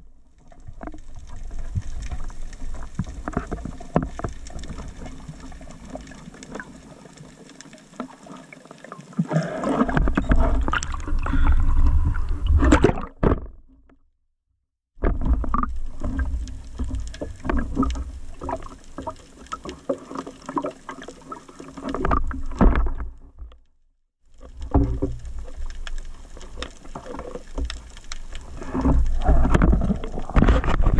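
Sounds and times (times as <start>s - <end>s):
water rushing and sloshing: 0.0s - 13.5s, 15.0s - 23.4s, 24.3s - 30.9s.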